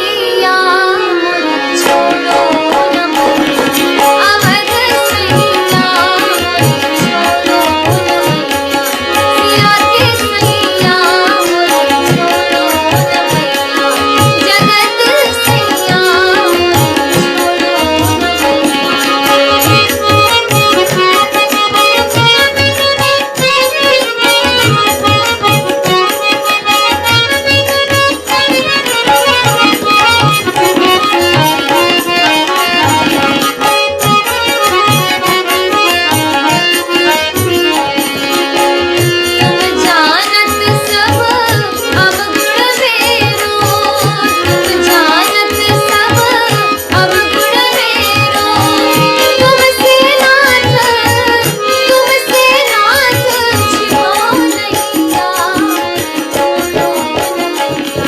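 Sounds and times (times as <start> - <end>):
sustained melodic accompaniment: 0.0 - 58.0
tabla strokes: 1.7 - 58.0.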